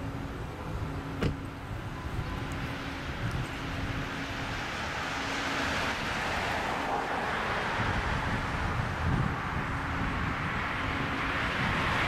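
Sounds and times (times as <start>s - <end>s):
passing vehicle: 0.0s - 12.0s.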